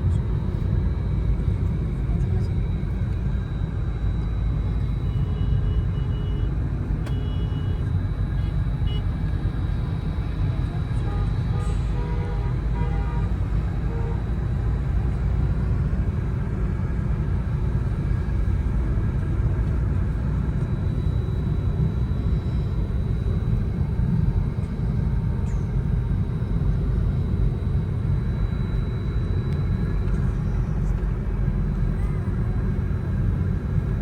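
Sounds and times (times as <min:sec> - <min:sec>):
vehicle and traffic rumble: 0:00.0 - 0:34.0.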